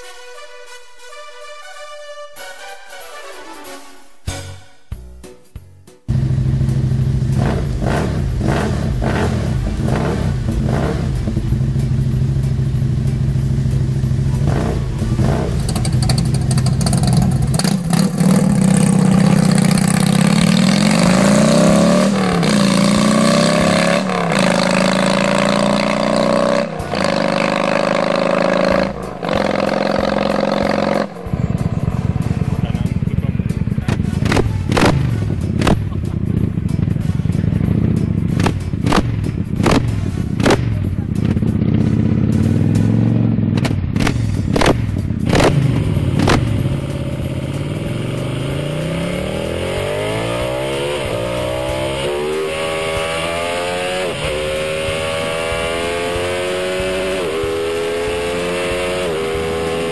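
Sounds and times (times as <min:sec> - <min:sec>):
motorcycle engine accelerating: 0:06.1 - 0:59.9.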